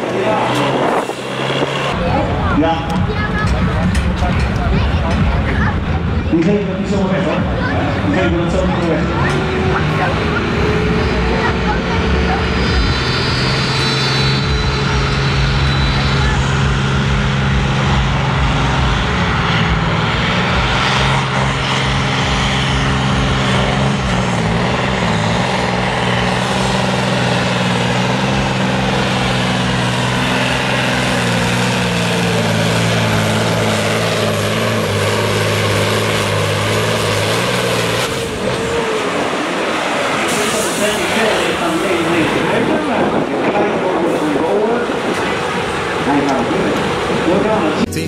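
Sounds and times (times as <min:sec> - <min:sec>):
diesel engine at full load: 0:00.0 - 0:48.0.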